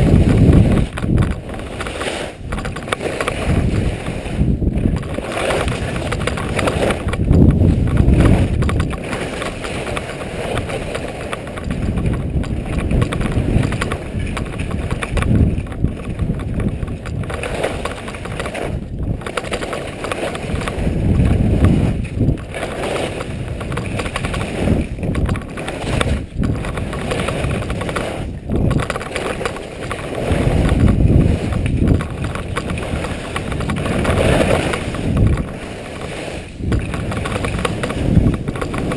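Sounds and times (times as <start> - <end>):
skis scraping over snow: 0.0 - 38.9
wind buffeting microphone: 0.0 - 38.9.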